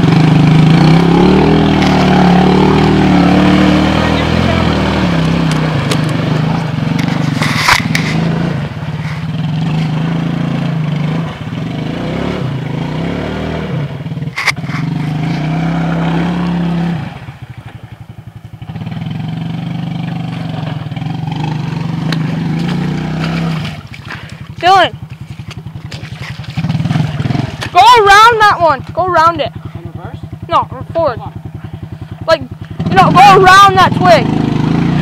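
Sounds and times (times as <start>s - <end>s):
quad engine churning through mud: 0.0s - 35.0s.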